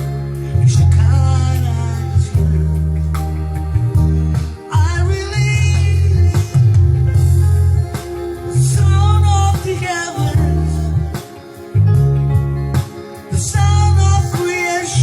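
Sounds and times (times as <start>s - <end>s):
guitar: 0.0s - 15.0s
person singing: 0.0s - 15.0s
steady bass line: 0.0s - 15.0s.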